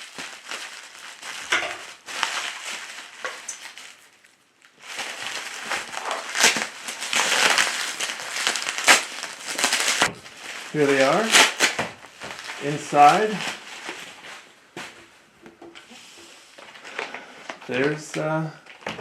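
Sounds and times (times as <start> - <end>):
bubble wrap crinkling and snapping: 0.0 - 15.1, 15.7 - 19.0.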